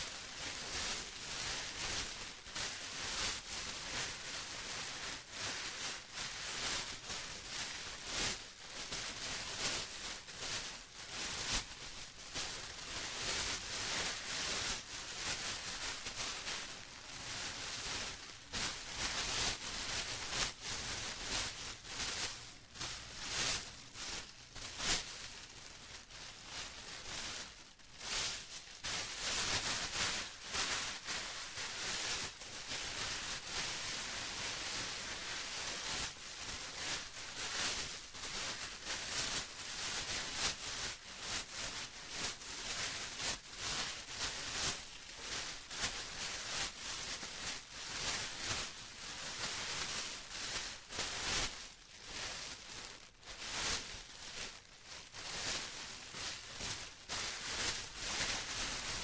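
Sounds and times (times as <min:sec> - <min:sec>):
plastic rustling and crinkling: 0:00.0 - 0:59.0.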